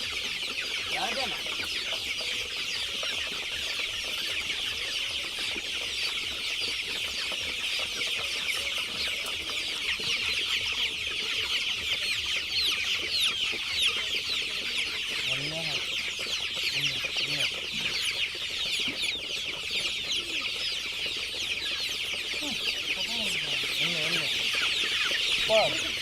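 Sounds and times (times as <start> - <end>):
chickens calling: 0.0 - 26.0.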